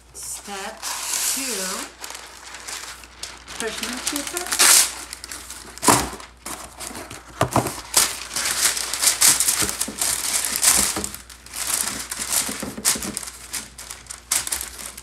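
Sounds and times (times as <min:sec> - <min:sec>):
parchment paper crinkling: 0:00.0 - 0:15.0.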